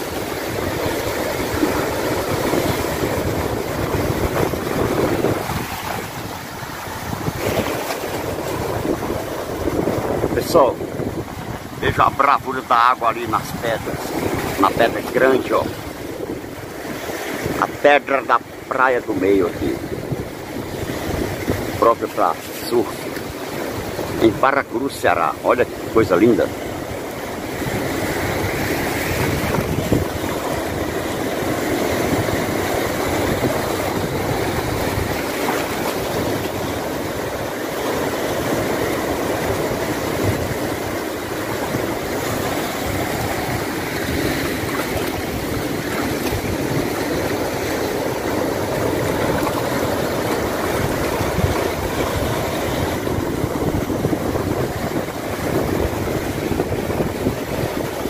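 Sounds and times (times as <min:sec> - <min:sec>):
ocean surf breaking over rocks: 0:00.0 - 0:58.0.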